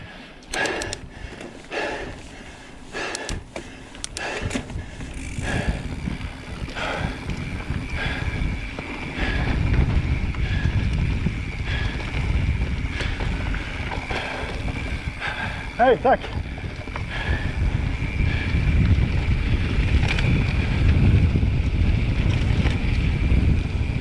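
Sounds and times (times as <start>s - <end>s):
low wind rumble on microphone: 0.0s - 24.0s
mountain bike rolling on dirt: 0.0s - 24.0s.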